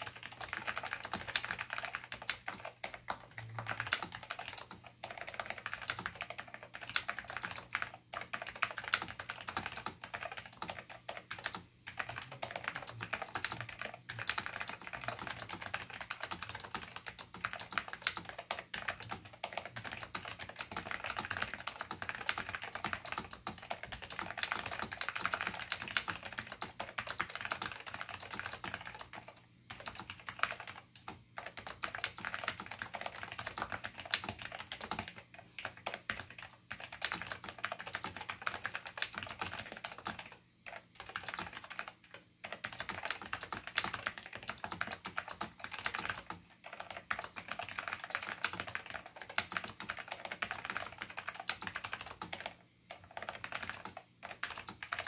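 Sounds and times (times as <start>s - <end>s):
fast keyboard typing: 0.0s - 55.0s.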